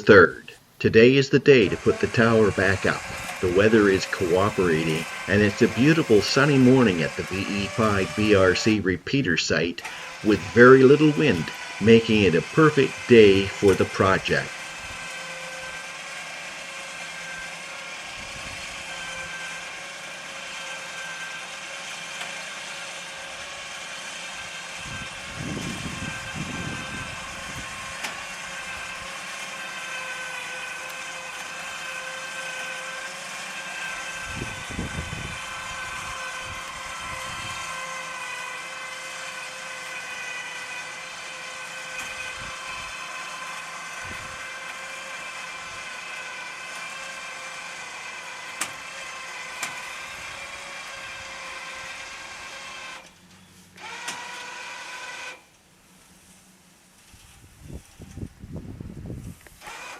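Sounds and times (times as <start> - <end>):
truck engine running: 0.0 - 52.5
steady whine: 0.0 - 54.4.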